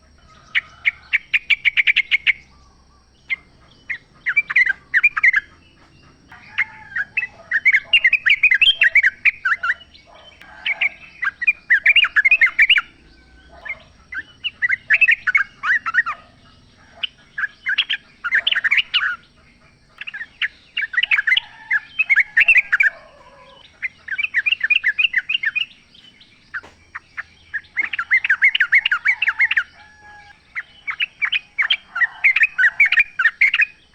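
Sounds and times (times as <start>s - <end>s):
bird chattering song: 0.0s - 33.9s
soft low bird calls: 0.0s - 33.9s.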